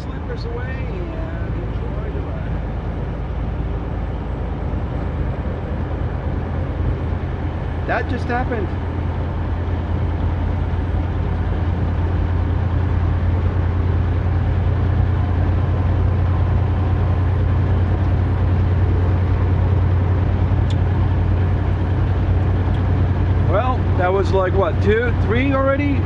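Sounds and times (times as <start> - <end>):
diesel truck engine drone: 0.0 - 26.0
road noise: 0.0 - 26.0.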